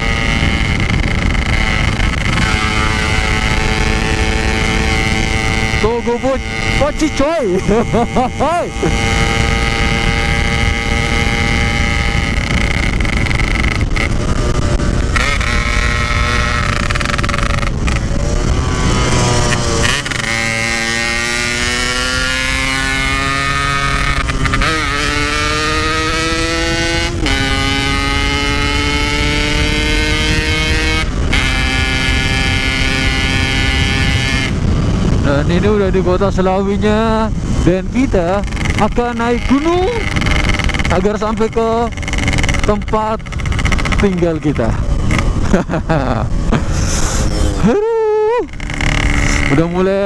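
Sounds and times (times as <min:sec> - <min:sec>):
motorcycle engine accelerating: 0:00.0 - 0:50.0
wind rushing: 0:00.0 - 0:50.0.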